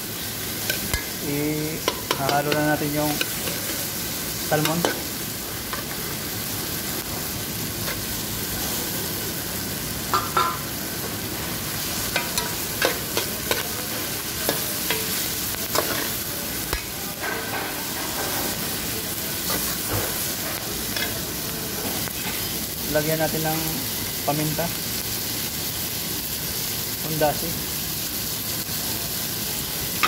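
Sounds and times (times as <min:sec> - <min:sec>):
fish sizzling in a pot: 0:00.0 - 0:30.0.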